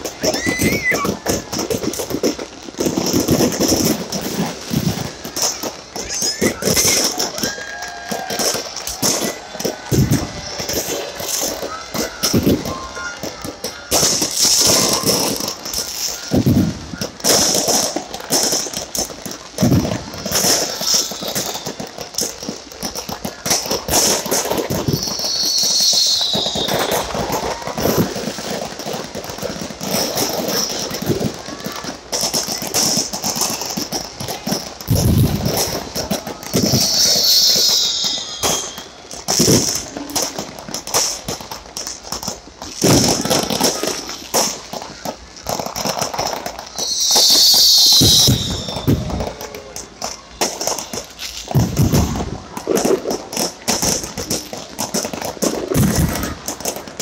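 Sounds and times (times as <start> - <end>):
crowd voices: 0.0 - 57.0
fireworks bangs and crackling: 0.0 - 57.0.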